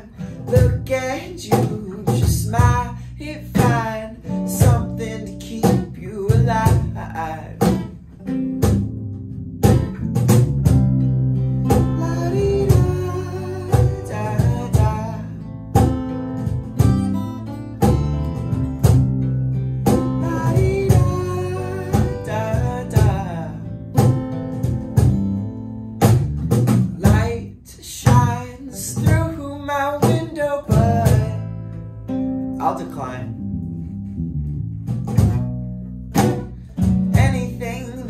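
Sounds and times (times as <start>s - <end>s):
acoustic guitars strumming: 0.0s - 38.0s
cajon beat: 0.0s - 38.0s
electric bass line: 0.0s - 38.0s.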